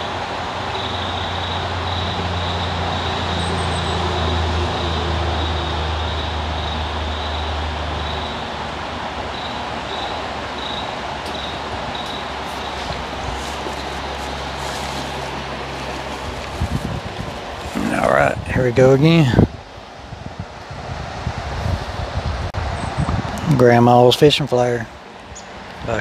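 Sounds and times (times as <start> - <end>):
water rushing: 0.0 - 21.4
low engine-like hum: 0.0 - 23.6.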